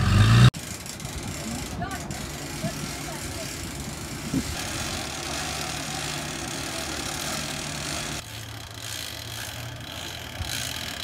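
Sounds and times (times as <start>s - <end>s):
engine idling: 0.6s - 11.0s.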